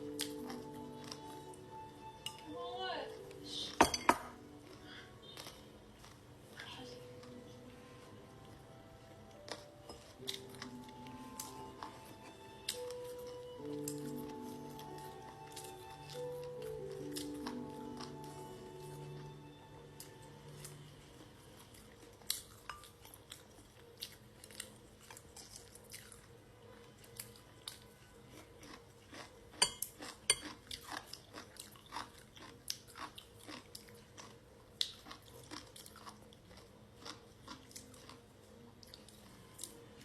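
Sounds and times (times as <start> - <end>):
chewing crunchy food: 0.0 - 2.5, 4.3 - 40.0.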